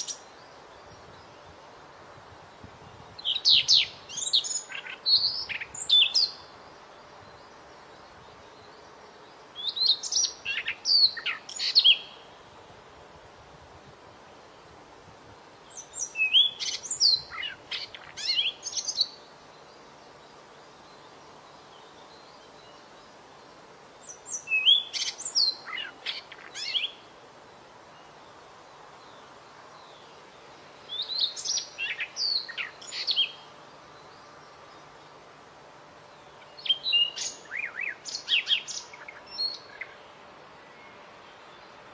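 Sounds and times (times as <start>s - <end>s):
songbird chirps and trills: 0.0s - 41.9s.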